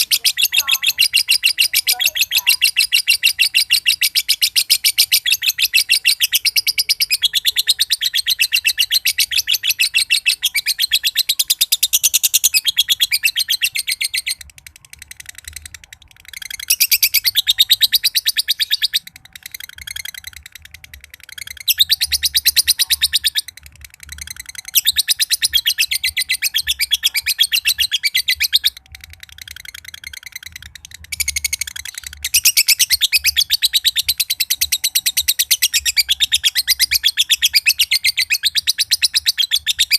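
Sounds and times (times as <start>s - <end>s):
lovebird shrill chattering trill: 0.0s - 39.9s.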